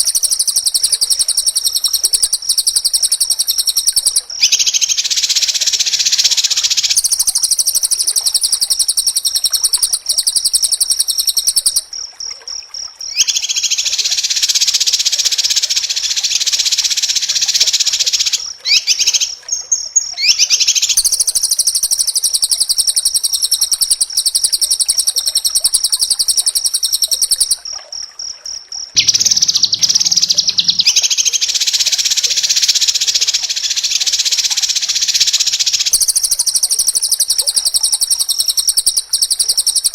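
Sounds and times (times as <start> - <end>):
bird singing rapid high trills: 0.0 - 11.8, 13.1 - 15.1, 20.2 - 27.6, 29.0 - 39.9.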